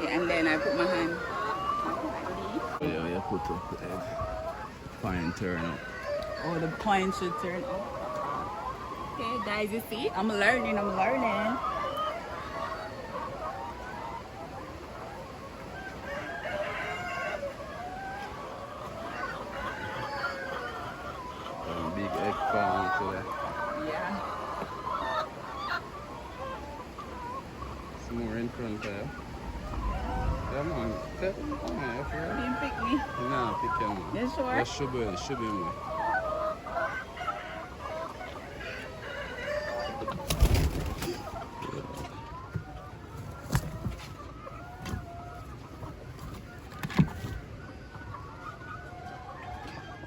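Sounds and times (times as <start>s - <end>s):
hens calling and cackling: 0.0s - 50.0s.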